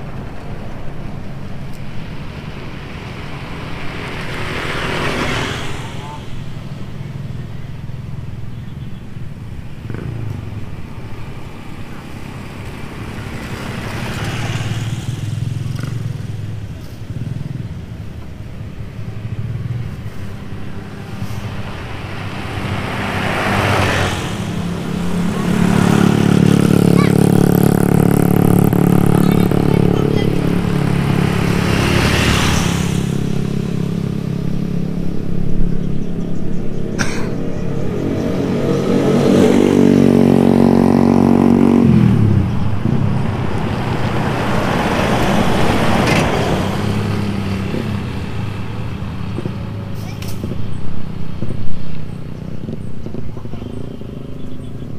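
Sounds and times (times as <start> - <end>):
dump truck engine drone: 0.0 - 54.9
heavy trucks driving past: 0.0 - 54.9.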